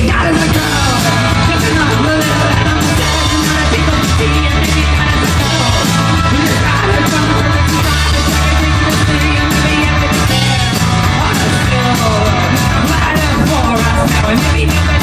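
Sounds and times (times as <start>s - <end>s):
drum kit beat: 0.0s - 15.0s
electric guitar: 0.0s - 15.0s
person singing: 0.0s - 15.0s.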